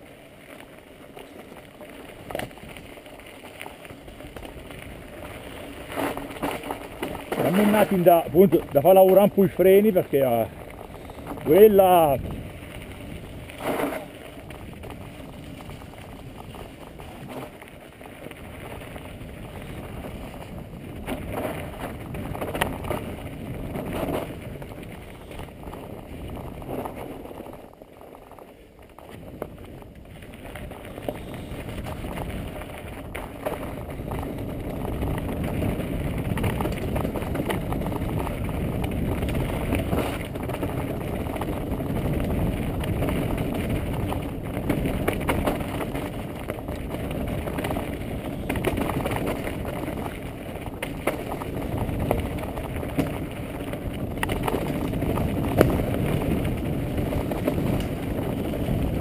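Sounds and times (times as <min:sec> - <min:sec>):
bike rattling and knocking: 0:00.3 - 0:59.0
tyres crunching over rock: 0:00.4 - 0:59.0
wind buffeting microphone: 0:03.8 - 0:27.6, 0:29.0 - 0:59.0.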